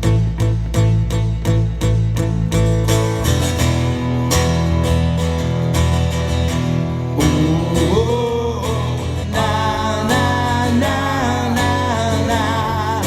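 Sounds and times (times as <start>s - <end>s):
live band with guitar: 0.0s - 13.0s.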